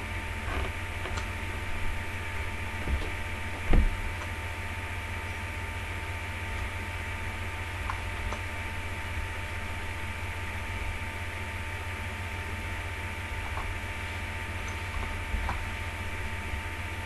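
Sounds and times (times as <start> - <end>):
faint steady whine: 0.0 - 17.0
low electrical hum: 0.0 - 17.0.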